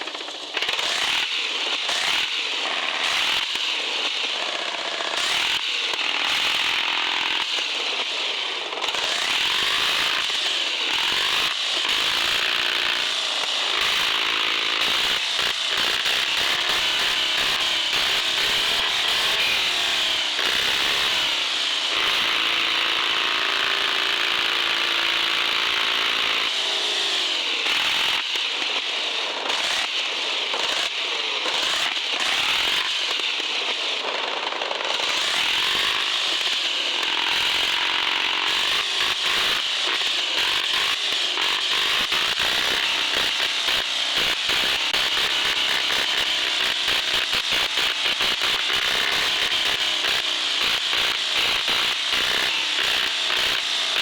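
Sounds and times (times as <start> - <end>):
toy truck electric motor whining: 0.0 - 54.0.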